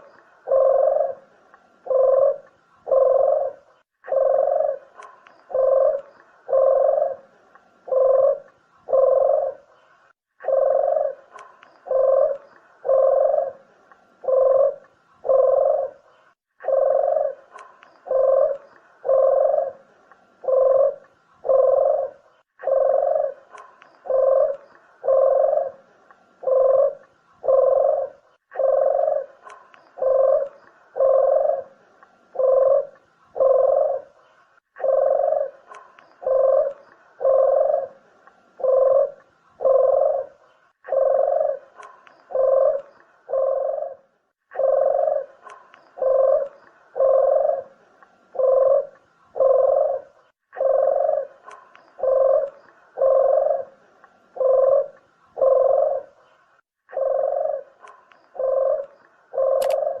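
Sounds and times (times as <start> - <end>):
dove cooing: 0.0 - 60.0.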